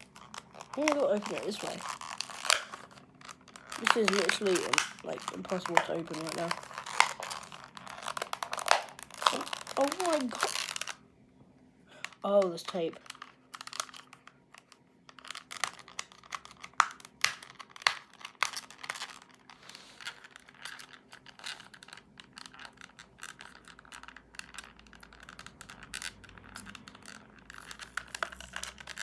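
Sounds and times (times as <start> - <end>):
packaging being torn open: 0.0 - 11.0, 13.0 - 29.0.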